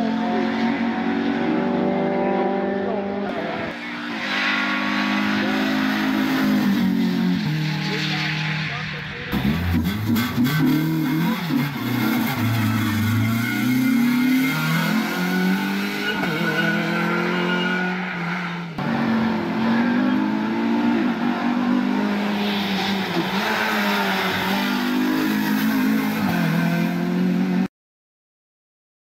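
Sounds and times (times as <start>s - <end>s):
race car engine revving: 0.0s - 27.7s.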